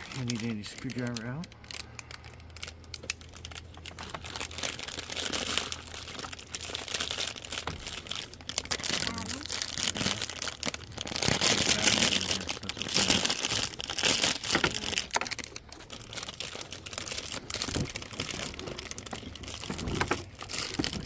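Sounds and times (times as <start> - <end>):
plastic crinkling and rustling: 0.0 - 21.0.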